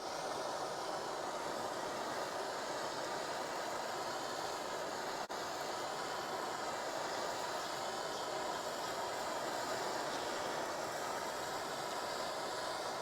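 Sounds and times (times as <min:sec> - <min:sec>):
blowtorch flame hissing: 0:00.0 - 0:13.0.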